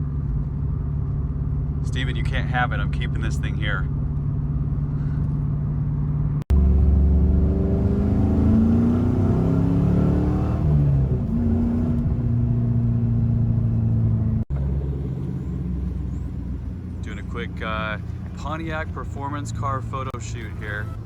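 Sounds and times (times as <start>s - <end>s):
car engine revving: 1.4s - 21.0s.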